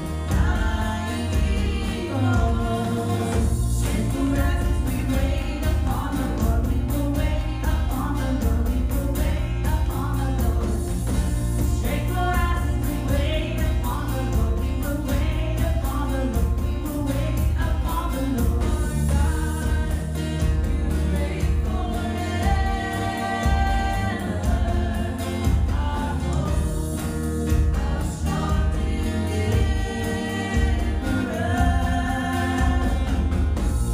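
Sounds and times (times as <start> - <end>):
instrumental backing with steady beat: 0.0 - 33.9
voices singing worship song: 0.0 - 33.9.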